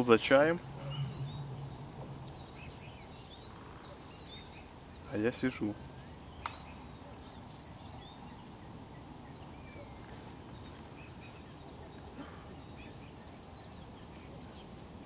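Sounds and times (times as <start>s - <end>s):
distant small birds singing: 0.0s - 15.0s
low background noise: 0.0s - 15.0s.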